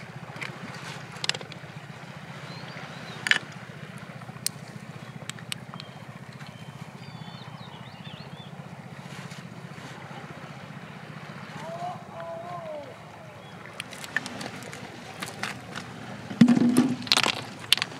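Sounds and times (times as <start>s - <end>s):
low pulsing hum: 0.0s - 17.9s.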